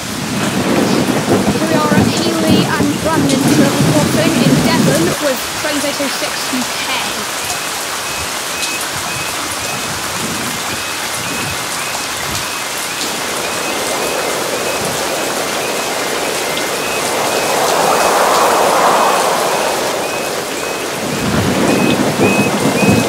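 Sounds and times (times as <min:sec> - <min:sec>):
rushing noise: 0:00.0 - 0:23.0
steady rain falling: 0:00.0 - 0:23.0
level crossing alarm beeping: 0:01.8 - 0:23.0.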